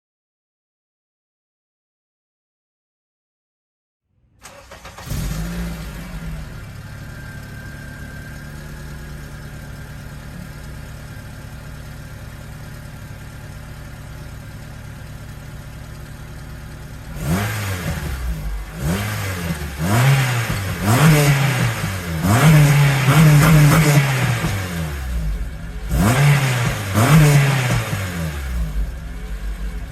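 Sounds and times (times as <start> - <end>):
car engine idling and revving: 4.4 - 29.9.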